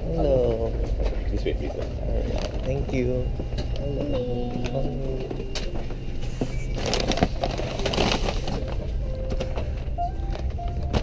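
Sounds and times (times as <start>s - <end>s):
aircraft cabin hum: 0.8s - 11.0s.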